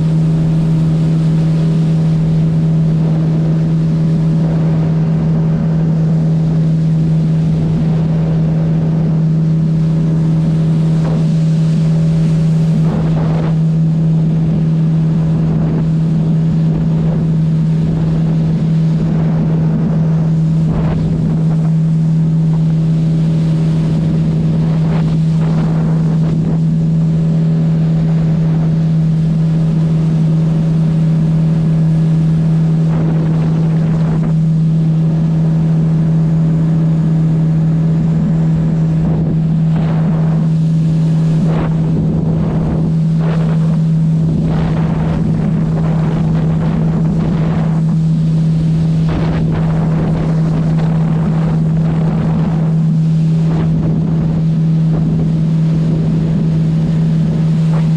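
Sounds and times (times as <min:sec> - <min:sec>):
boat engine running: 0:00.0 - 0:57.9
water rushing along hull: 0:00.0 - 0:57.9
wind buffeting microphone: 0:00.0 - 0:57.9.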